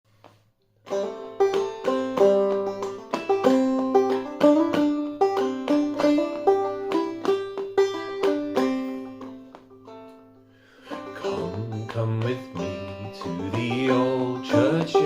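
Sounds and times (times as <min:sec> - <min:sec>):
banjo plucked melody: 0:00.8 - 0:15.0.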